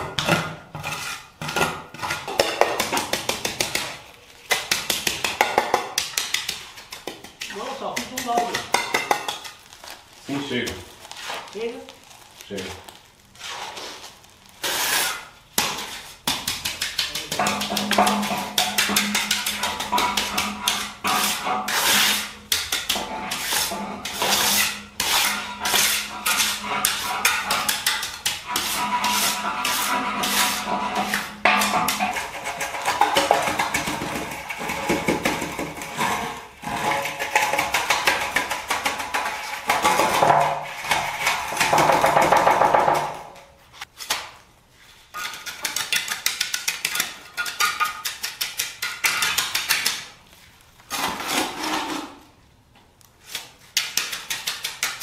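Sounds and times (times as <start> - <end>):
hand tools scraping concrete: 0.0 - 43.9, 44.8 - 50.2, 50.9 - 52.3, 53.2 - 55.0.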